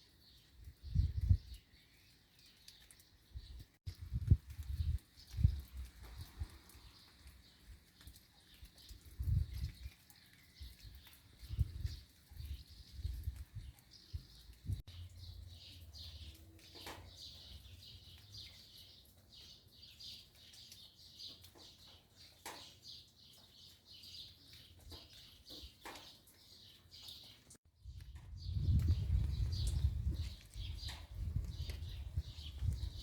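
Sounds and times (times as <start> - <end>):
rain pattering on leaves: 0.0 - 33.0
small birds chirping: 0.0 - 33.0.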